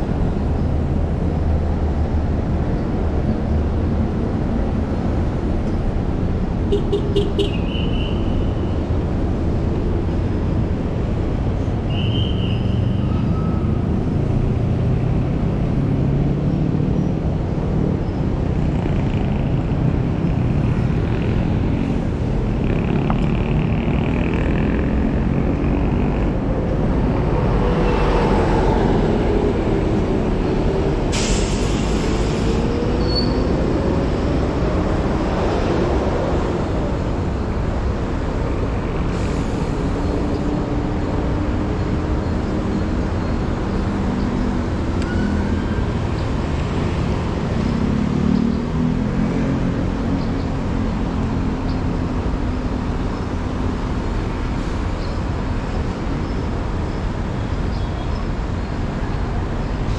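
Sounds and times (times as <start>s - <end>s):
buses and trucks running: 0.0s - 59.9s
heavy road traffic: 0.0s - 59.9s.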